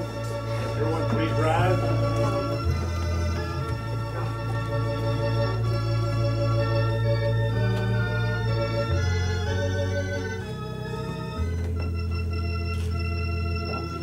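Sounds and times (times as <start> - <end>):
organ playing slow chords: 0.0 - 14.0.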